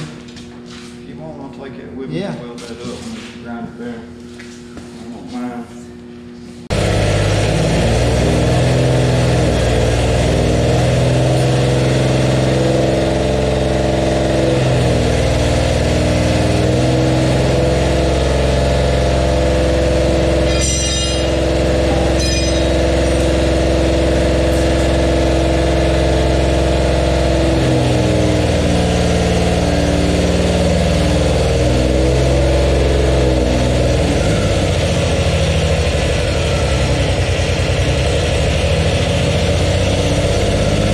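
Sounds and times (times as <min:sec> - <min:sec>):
stump grinder engine running: 0:06.7 - 0:40.9.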